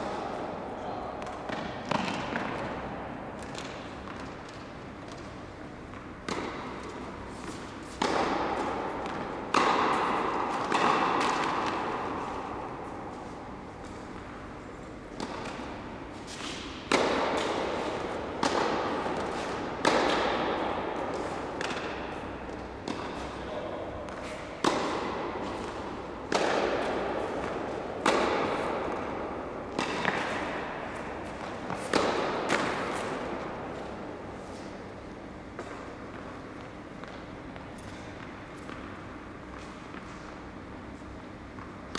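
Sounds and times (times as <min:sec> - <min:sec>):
tennis ball struck by rackets: 0:01.2 - 0:40.4
tennis ball bouncing: 0:01.2 - 0:40.8.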